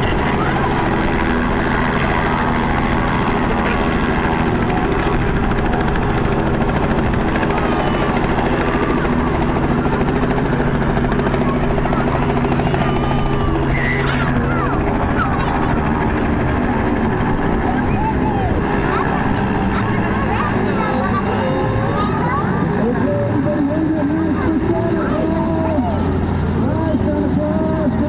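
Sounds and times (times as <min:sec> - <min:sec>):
helicopter engine: 0:00.0 - 0:28.0.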